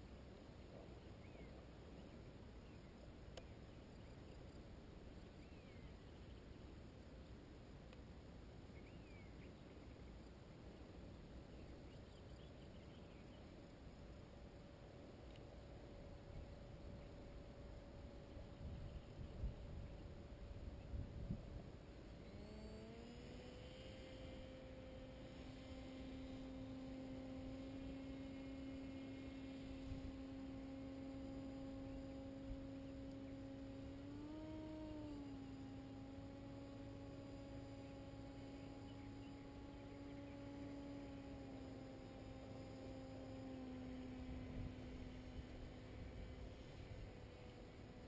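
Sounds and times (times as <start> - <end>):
distant paramotor engine drone: 0.0 - 48.0.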